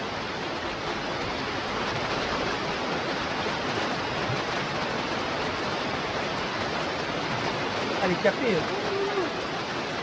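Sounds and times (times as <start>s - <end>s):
river rapids rushing: 0.0s - 10.0s.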